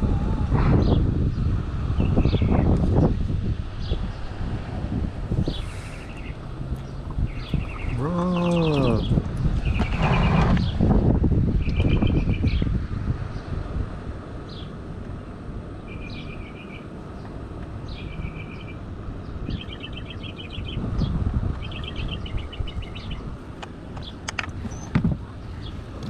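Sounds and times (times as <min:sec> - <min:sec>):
songbird singing: 0:00.0 - 0:04.5, 0:05.3 - 0:13.8, 0:14.4 - 0:26.0.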